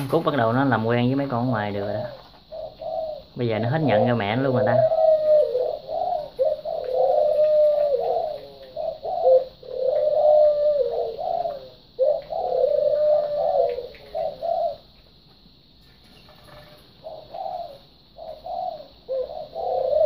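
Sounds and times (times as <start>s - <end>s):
pigeon cooing: 0.0s - 15.0s, 16.2s - 20.0s.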